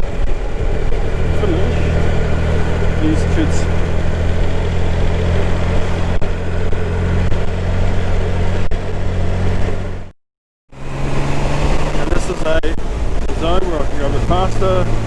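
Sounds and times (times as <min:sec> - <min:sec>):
motorcycle engine running: 0:00.0 - 0:10.1, 0:10.7 - 0:15.0.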